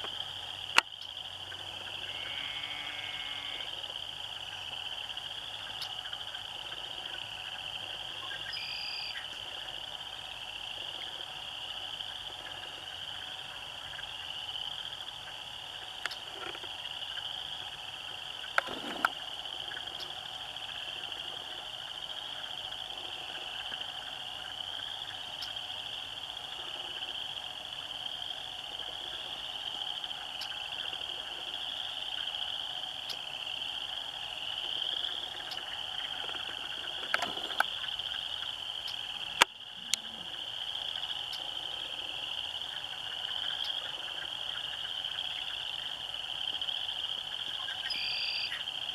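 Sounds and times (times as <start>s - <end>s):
frogs chorusing: 0.0s - 48.9s.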